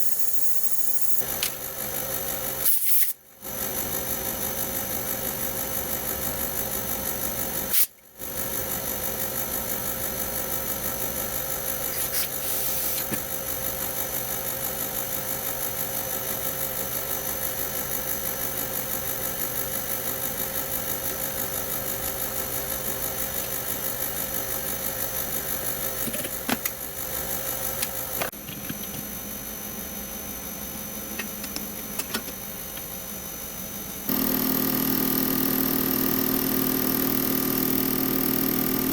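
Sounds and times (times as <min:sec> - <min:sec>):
pulsing machine hum: 0:03.4 - 0:38.9.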